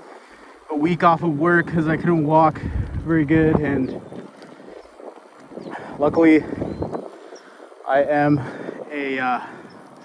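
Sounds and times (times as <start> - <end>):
wind rushing over microphone: 0.6 - 10.0.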